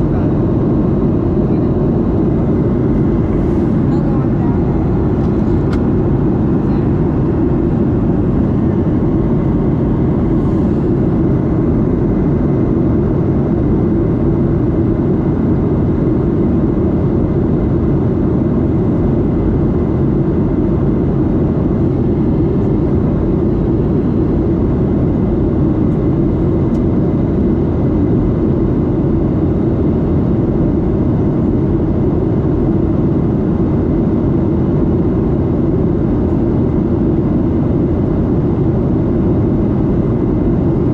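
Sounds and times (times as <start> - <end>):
jet engine roar in cabin: 0.0 - 40.9.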